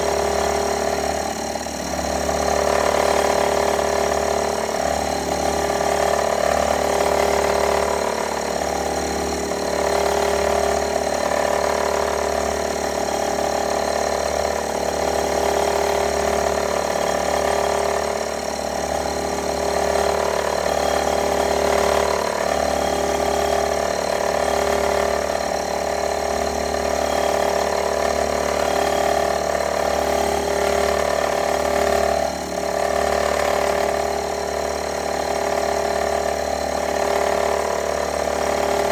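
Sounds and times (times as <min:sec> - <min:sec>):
machine tool whining: 0:00.0 - 0:38.9.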